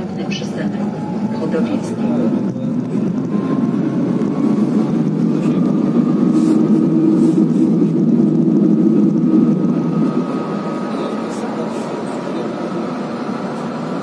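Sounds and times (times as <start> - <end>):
train rumbling from inside carriage: 0.0 - 14.0.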